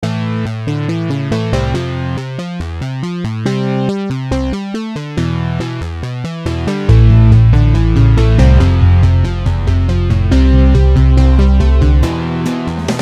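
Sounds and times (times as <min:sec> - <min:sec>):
bass line: 0:00.0 - 0:13.0
synthesizer melody: 0:00.0 - 0:13.0.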